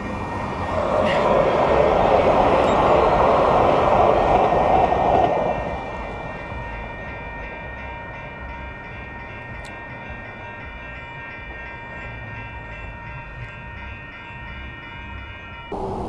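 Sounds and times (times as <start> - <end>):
high ringing tones: 0.0 - 16.0
train rumbling: 0.0 - 16.0.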